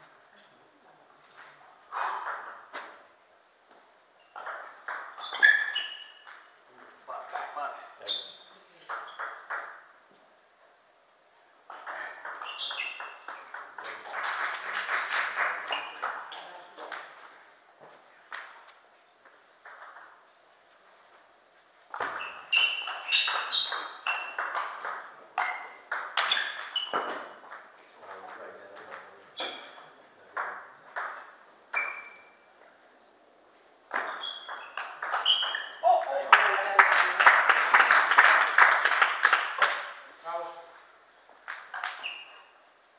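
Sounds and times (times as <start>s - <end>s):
table tennis rally: 0.0s - 10.2s, 11.6s - 21.1s, 21.9s - 32.8s, 33.8s - 42.7s.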